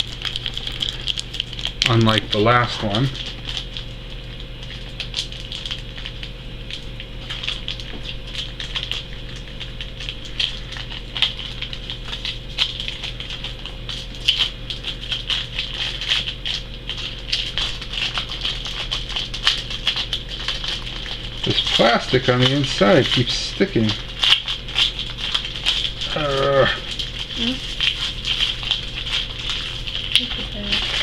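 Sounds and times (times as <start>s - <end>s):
faint steady hum: 0.0s - 31.0s
plastic wrapper crinkling: 0.0s - 31.0s.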